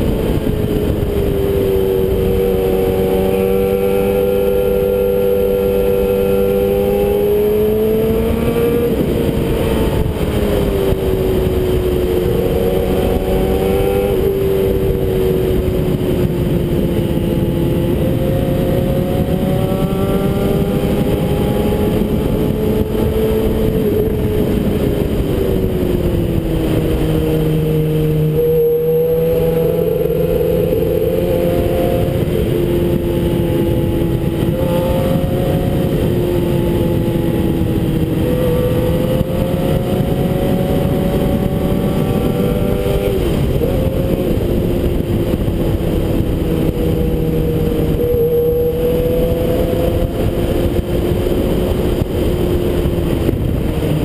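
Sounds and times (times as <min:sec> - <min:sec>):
wind rushing over camera: 0:00.0 - 0:54.0.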